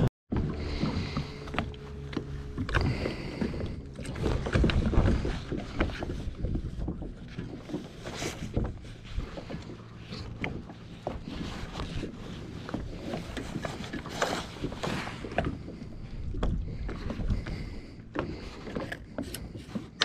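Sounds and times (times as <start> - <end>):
kayak knocking and rubbing: 0.3 - 20.0
water sloshing against hulls: 0.3 - 20.0.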